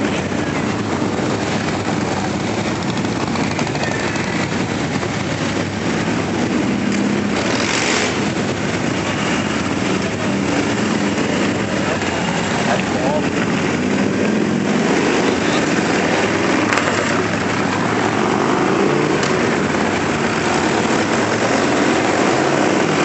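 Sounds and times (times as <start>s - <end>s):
motorcycles riding past: 0.0s - 23.0s
rush of noise: 0.0s - 23.0s.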